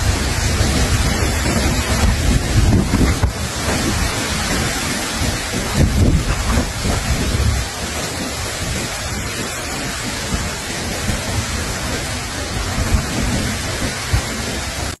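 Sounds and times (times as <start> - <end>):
low rumbles: 0.0 - 15.0
steady rushing noise: 0.0 - 15.0.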